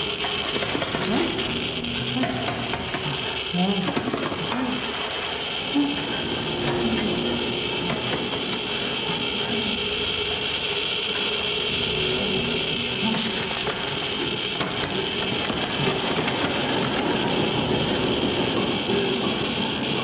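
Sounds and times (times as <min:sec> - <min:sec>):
geiger counter crackling clicks: 0:00.0 - 0:19.8
steady hiss: 0:00.0 - 0:20.0.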